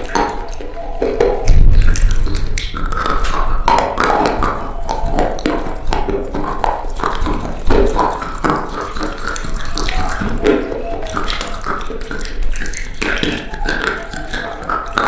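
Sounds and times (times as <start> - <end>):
crunching and chewing: 0.0 - 15.0.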